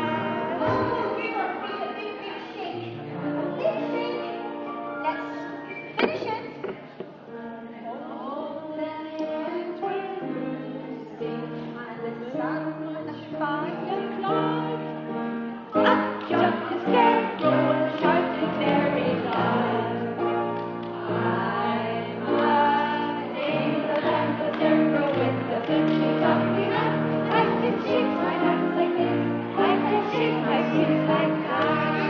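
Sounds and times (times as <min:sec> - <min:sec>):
voices singing together: 0:00.0 - 0:01.5, 0:06.0 - 0:32.0.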